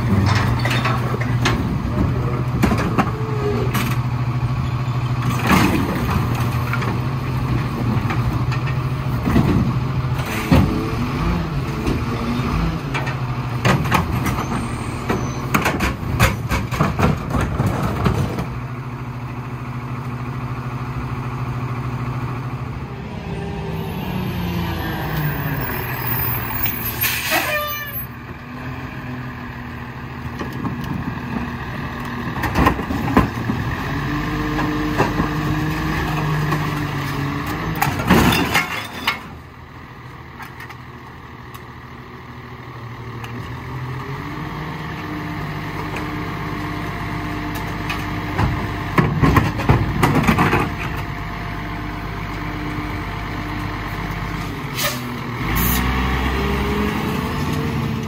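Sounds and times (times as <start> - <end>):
garbage truck engine running: 0.0 - 27.2, 28.1 - 58.0.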